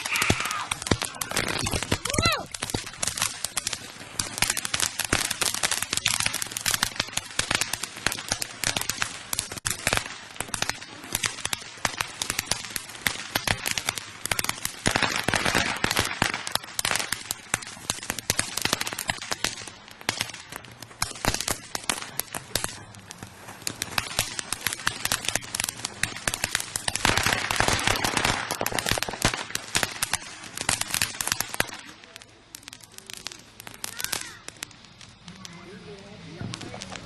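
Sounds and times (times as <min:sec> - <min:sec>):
fireworks crackling and popping: 0:00.0 - 0:37.0
fireworks hissing: 0:00.0 - 0:37.0.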